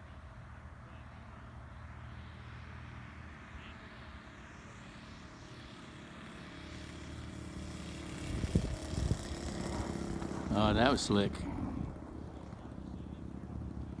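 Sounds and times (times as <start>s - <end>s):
model plane engine: 0.9s - 14.0s.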